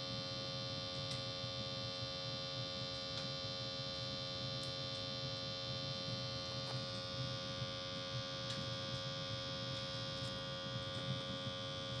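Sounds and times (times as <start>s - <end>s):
steady hum: 0.0s - 12.0s
stove fire rumbling: 0.0s - 12.0s.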